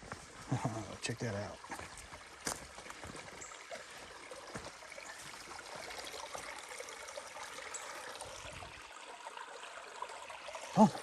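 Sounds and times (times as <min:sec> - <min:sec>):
creek trickling: 0:00.0 - 0:11.0.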